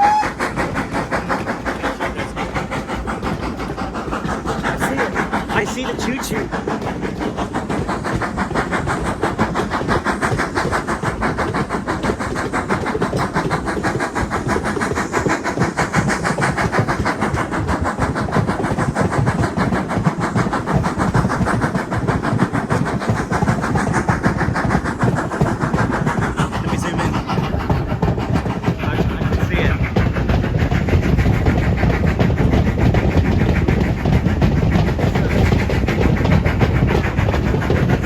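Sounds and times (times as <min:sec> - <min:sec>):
locomotive engine pulsing: 0:00.0 - 0:38.0.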